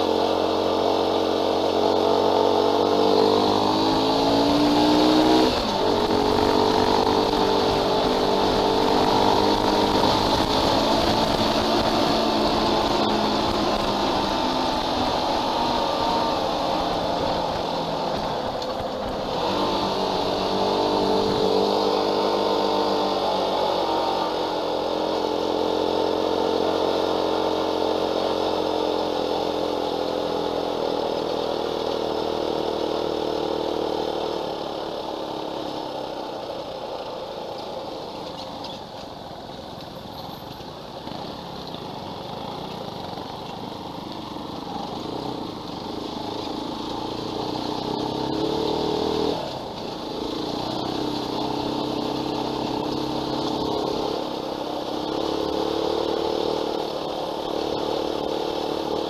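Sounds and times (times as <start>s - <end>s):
dirt bike engine running: 0.0s - 59.0s
wind and road noise: 0.0s - 59.0s.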